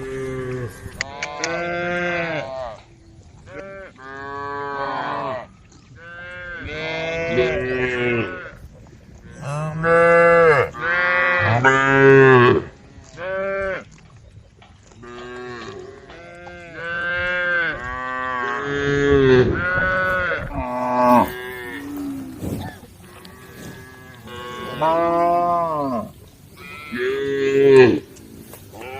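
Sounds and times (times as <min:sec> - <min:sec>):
cows mooing: 0:00.0 - 0:02.8, 0:03.5 - 0:08.6, 0:09.3 - 0:13.9, 0:15.0 - 0:28.9.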